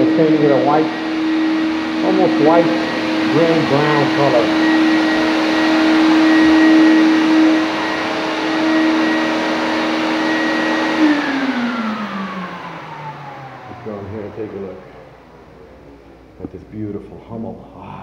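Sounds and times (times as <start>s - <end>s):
shop vacuum motor whine: 0.0s - 17.0s.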